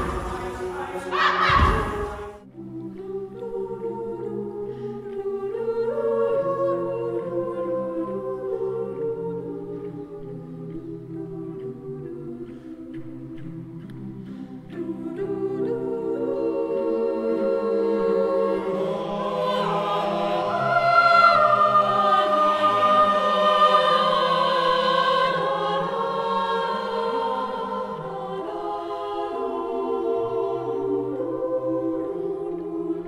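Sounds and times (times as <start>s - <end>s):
choir singing sustained chords: 0.0s - 33.0s.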